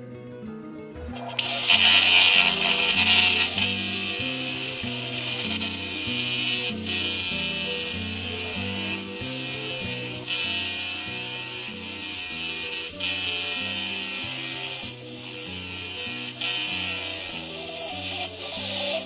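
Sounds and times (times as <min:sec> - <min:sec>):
background music: 0:00.0 - 0:19.0
high-pitched hiss: 0:01.2 - 0:19.0.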